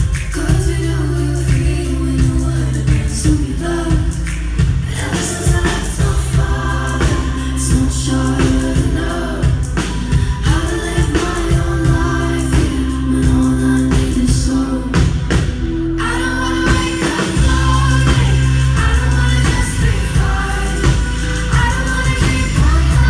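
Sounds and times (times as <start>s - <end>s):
synth bass: 0.0s - 23.0s
woman singing: 0.0s - 23.0s.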